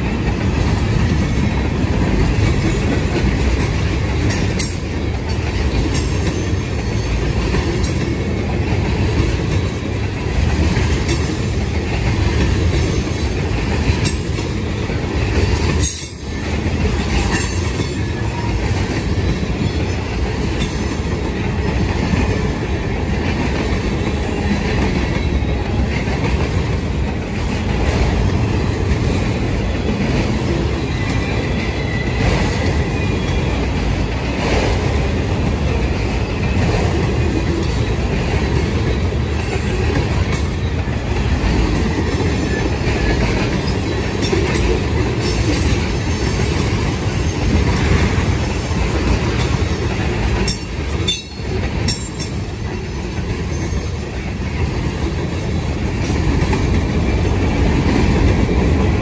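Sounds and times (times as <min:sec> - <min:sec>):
steel wheels rumbling on rail: 0:00.0 - 0:59.0
wheels clicking over rail joints: 0:00.0 - 0:59.0.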